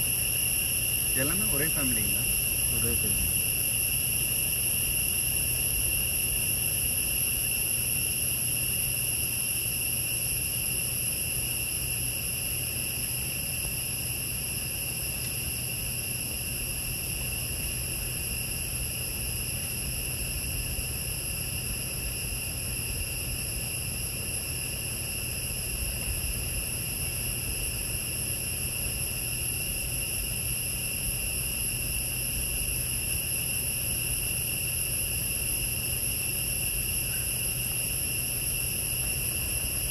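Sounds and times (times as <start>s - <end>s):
forest insects chorus: 0.0s - 39.9s.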